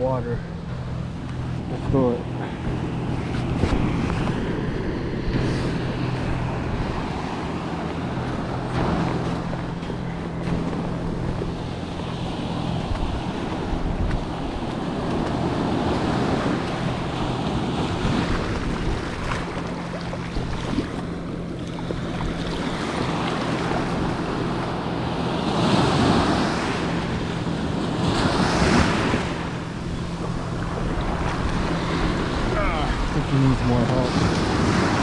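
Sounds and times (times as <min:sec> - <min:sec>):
wind buffeting microphone: 0:00.0 - 0:35.0
ocean surf washing over sand: 0:01.6 - 0:35.0.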